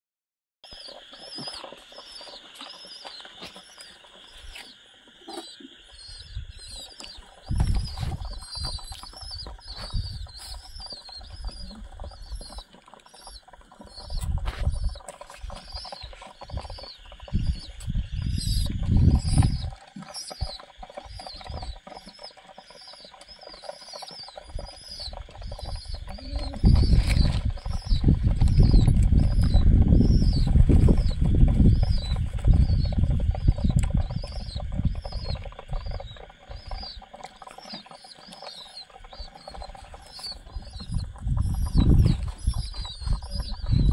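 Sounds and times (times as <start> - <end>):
high chirp: 0.6 - 37.0, 37.6 - 43.9
pigeons wing flapping: 6.8 - 43.9.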